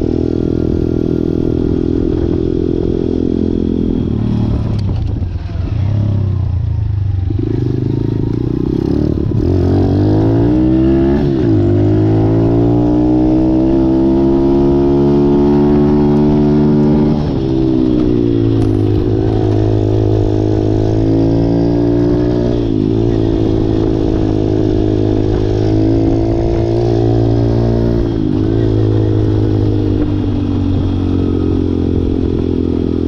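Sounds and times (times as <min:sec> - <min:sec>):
motorbike engine revving: 0:00.0 - 0:33.0.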